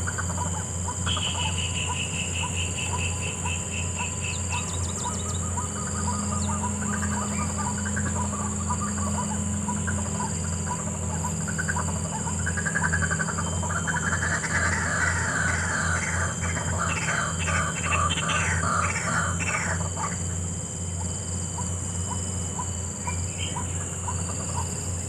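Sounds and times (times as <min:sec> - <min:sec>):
waterhens calling: 0:00.0 - 0:20.4.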